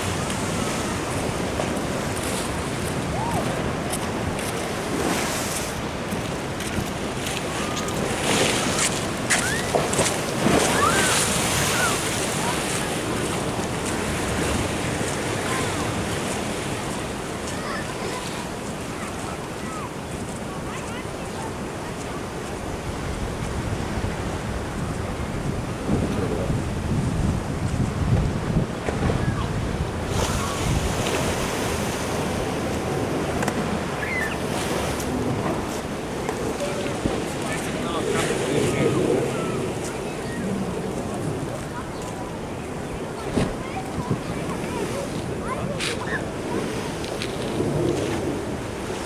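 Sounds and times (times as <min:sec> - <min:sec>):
ocean surf washing in: 0:00.0 - 0:49.0
wind on microphone: 0:00.0 - 0:49.0.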